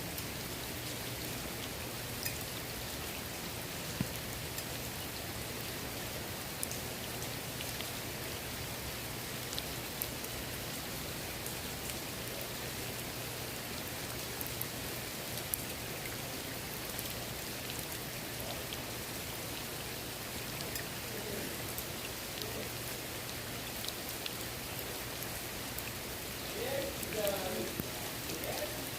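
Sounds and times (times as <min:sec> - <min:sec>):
rain falling on pool water: 0:00.0 - 0:28.9.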